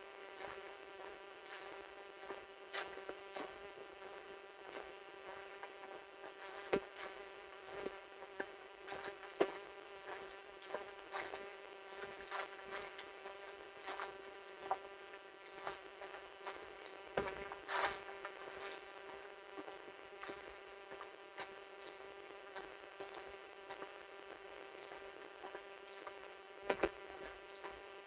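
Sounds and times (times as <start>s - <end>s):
steady buzzing hum: 0.0s - 28.0s
footsteps on dry leaves: 0.3s - 4.9s, 6.2s - 8.0s, 8.8s - 14.8s, 15.4s - 25.6s.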